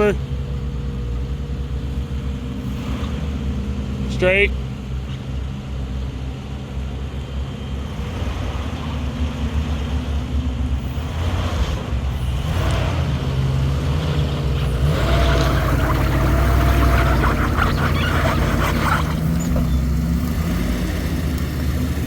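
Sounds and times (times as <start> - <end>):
vehicle engine running low: 0.0 - 22.0.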